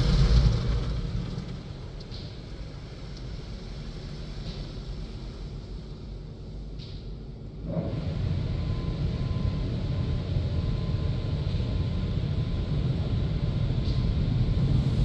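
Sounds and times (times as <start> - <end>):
car wash machinery rushing: 0.0 - 6.2, 7.7 - 15.0
faint steady whine: 0.0 - 15.0.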